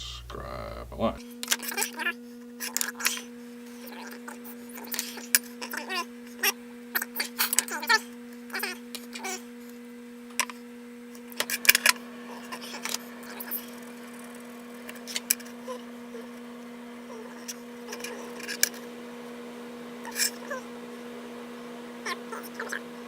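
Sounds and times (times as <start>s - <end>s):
steady low hum: 0.0s - 1.4s, 2.0s - 23.0s.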